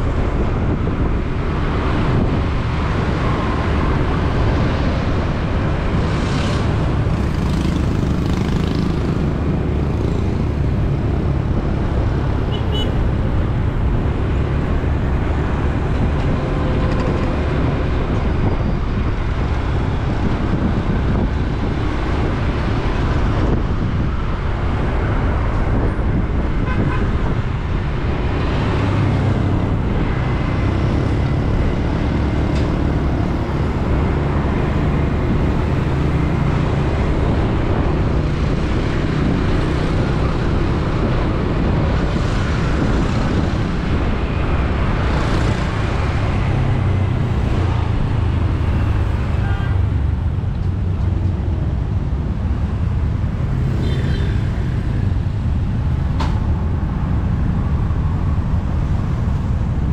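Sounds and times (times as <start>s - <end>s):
loud road traffic rumble: 0.0s - 59.9s.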